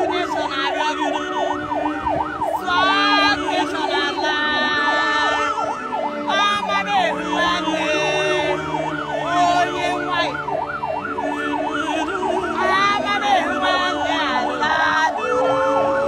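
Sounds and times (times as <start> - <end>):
vehicle siren yelping: 0.0 - 16.0.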